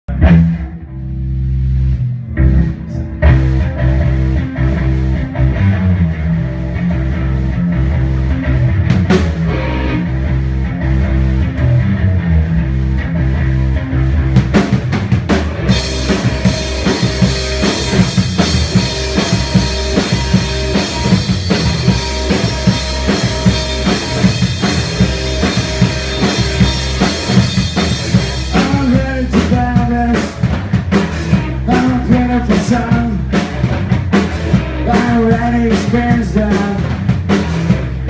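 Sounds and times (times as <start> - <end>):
rock band playing instrumental: 0.1 - 38.0.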